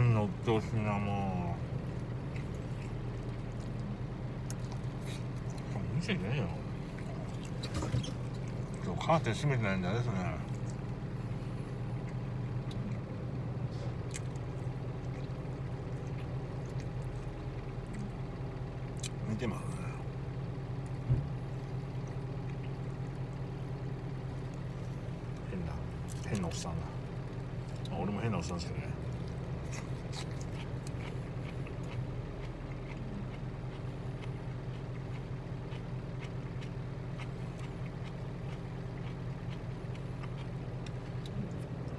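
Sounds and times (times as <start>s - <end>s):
truck engine idling: 0.0s - 41.9s
chewing: 0.6s - 19.2s, 20.8s - 41.9s.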